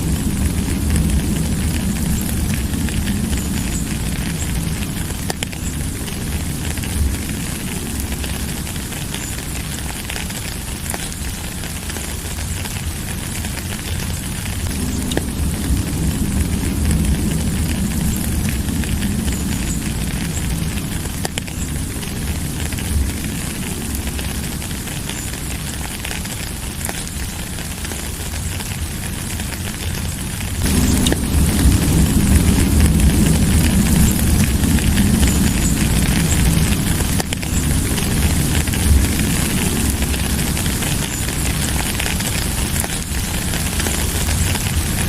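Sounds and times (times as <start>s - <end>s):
deep rumble: 0.0s - 45.0s
steady rain falling: 0.0s - 45.0s.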